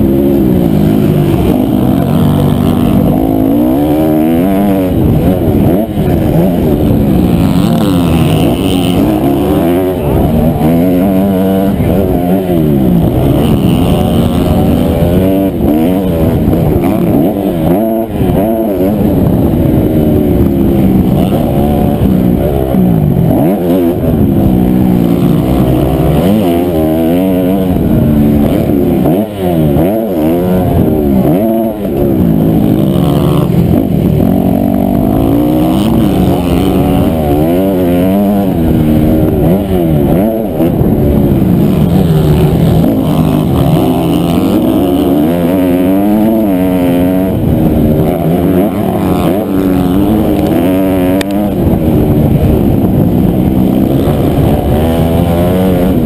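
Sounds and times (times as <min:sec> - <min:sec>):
motocross engine revving hard: 0:00.0 - 0:56.0.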